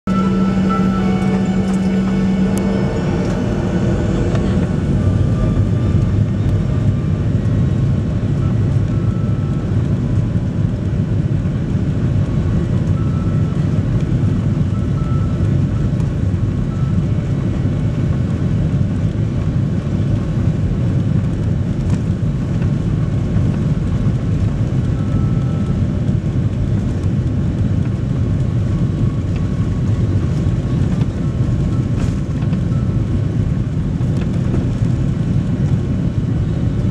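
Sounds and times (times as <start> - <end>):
jet engine rumble in cabin: 0.0 - 36.9.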